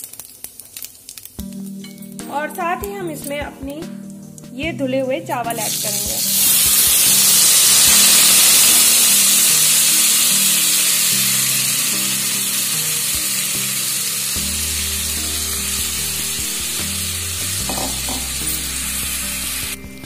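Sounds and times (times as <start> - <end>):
rice sizzling in hot oil: 0.0 - 2.2, 5.6 - 20.0
soft background music: 1.4 - 20.0.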